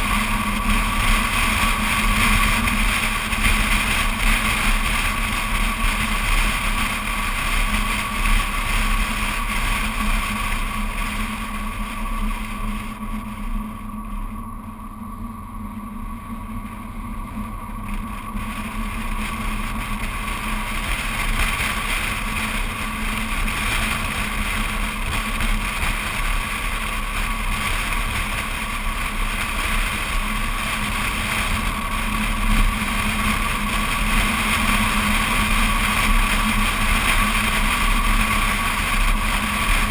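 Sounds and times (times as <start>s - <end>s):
road noise: 0.0s - 39.9s
steady hum: 0.0s - 39.9s.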